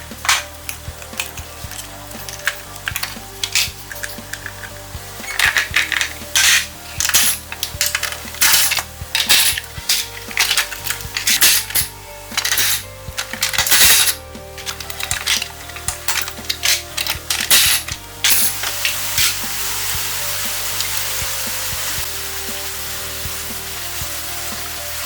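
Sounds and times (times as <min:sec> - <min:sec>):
metal scraping and clinking: 0:00.0 - 0:22.1
background music: 0:00.0 - 0:25.0.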